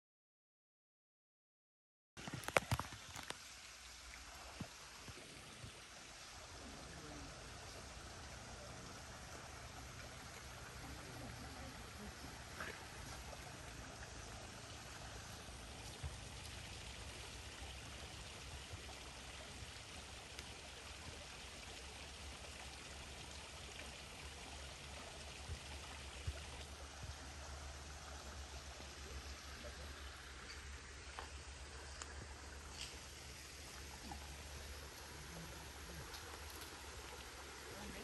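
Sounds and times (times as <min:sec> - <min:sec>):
running water trickling: 0:02.2 - 0:38.0.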